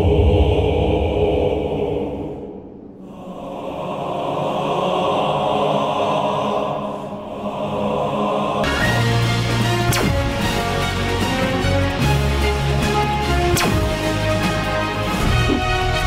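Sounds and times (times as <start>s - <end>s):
background music: 0.0s - 16.0s
choir-like chant drone: 0.0s - 16.0s.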